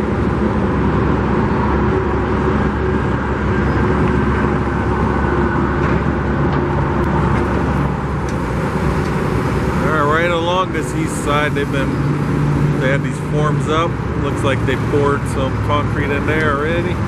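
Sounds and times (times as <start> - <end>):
road rumble: 0.0 - 17.0
vehicle engine hum: 0.0 - 17.0.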